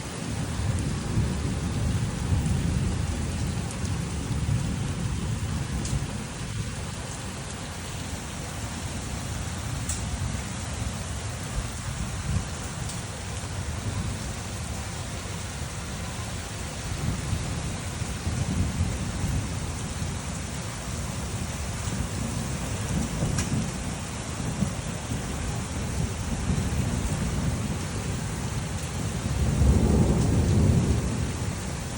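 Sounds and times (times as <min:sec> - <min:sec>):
heavy rain falling: 0:00.0 - 0:31.9
rumble of thunder: 0:00.3 - 0:07.4, 0:08.7 - 0:31.9.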